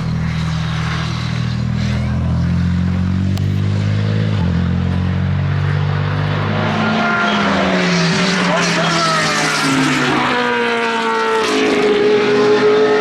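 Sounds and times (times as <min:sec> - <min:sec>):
racing engine droning under load: 0:00.0 - 0:13.0.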